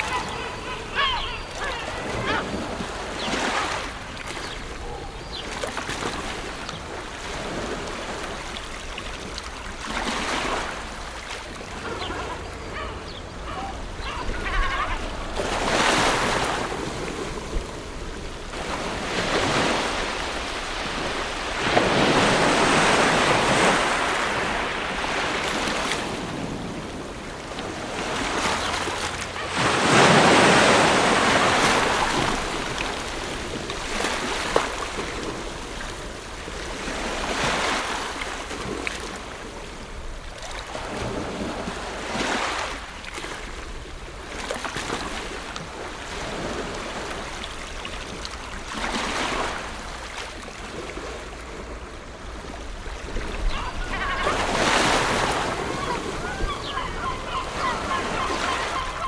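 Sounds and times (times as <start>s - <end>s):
ocean waves washing in: 0.0s - 59.0s.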